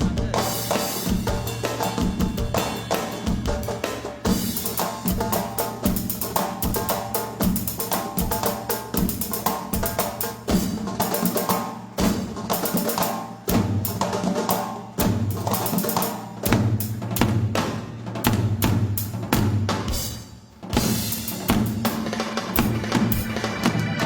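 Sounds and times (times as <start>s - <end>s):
fast dense percussion: 0.0s - 24.0s
heavy low drum: 0.0s - 24.0s.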